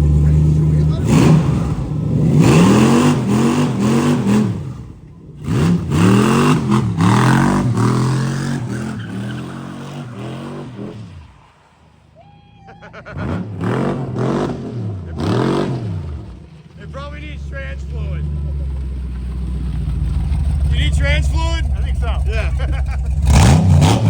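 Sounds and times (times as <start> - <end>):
truck engine revving: 0.0 - 12.1, 12.9 - 24.0.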